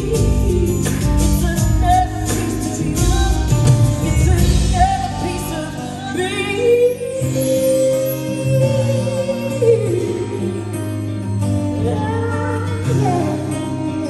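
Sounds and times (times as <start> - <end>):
live band with singing: 0.0 - 14.0.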